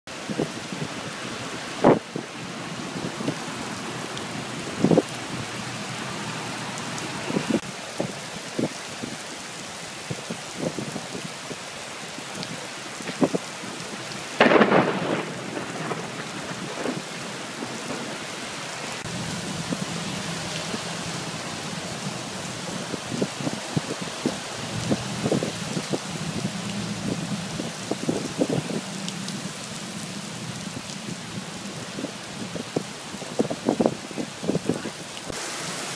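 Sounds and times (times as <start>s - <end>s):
heavy rain on pavement: 0.1s - 35.9s.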